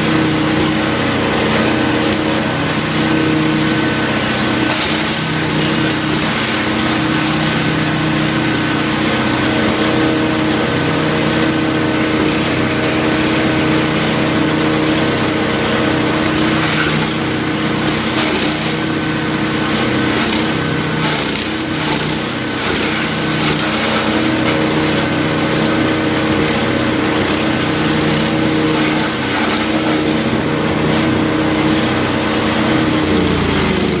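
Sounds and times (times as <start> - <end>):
wood chipper engine running: 0.0 - 34.0.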